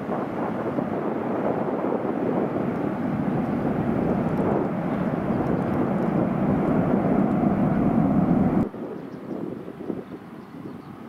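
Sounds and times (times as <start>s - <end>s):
jet engines rumbling: 0.0s - 8.9s.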